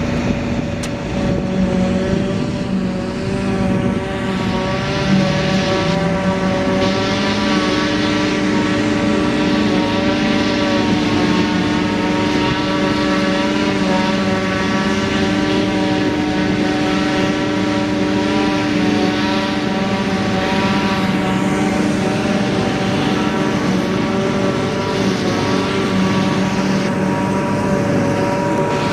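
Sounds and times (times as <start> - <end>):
diesel engine running under load: 0.0 - 28.9
steady machine whine: 0.0 - 28.9.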